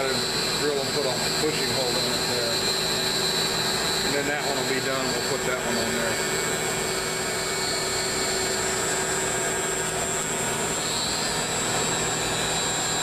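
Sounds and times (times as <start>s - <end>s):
cnc router running: 0.0s - 13.0s.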